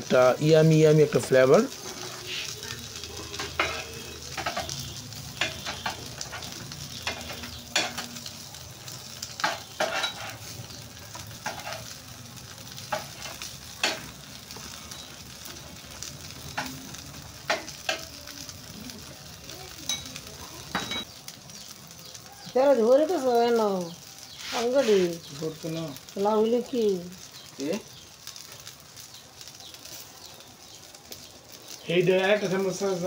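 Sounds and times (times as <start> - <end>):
fish sizzling on grill: 0.0 - 33.0
crackles and pops: 1.2 - 33.0.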